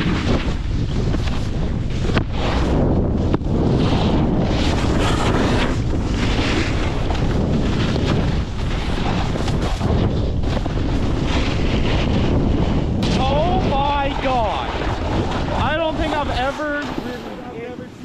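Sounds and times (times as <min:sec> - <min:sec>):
snowboard scraping on snow: 0:00.0 - 0:18.0
wind buffeting microphone: 0:00.0 - 0:18.0.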